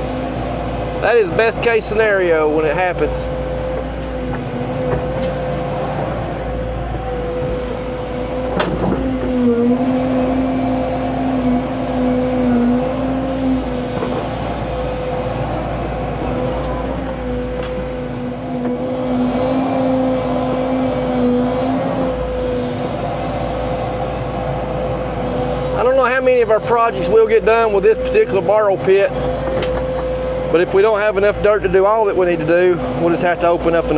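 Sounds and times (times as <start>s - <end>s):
earthmoving machine engine running: 0.0s - 33.9s.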